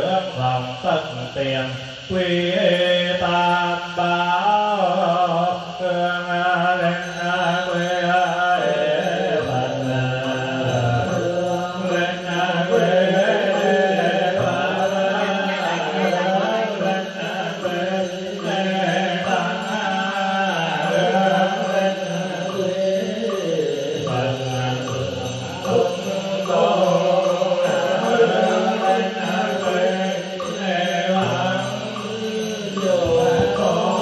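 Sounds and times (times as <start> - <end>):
voices chanting: 0.0 - 34.0.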